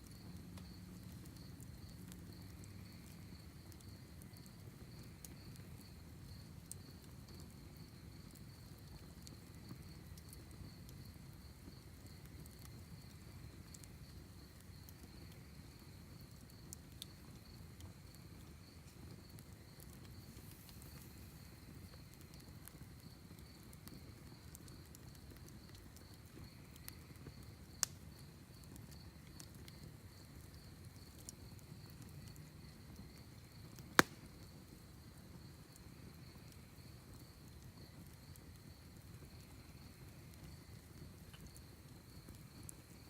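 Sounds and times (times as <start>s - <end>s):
crickets chirping: 0.0s - 43.0s
fire popping: 0.0s - 43.0s
wood fire crackling: 0.0s - 43.0s.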